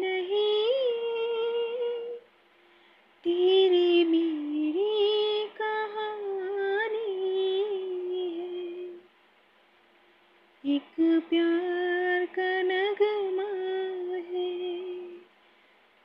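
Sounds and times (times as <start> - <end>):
woman singing unaccompanied: 0.0 - 2.3, 3.2 - 9.1, 10.6 - 15.3.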